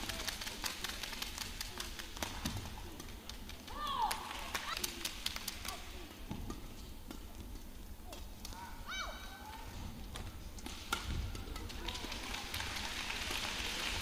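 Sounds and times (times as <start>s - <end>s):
low hall hum: 0.0s - 14.0s.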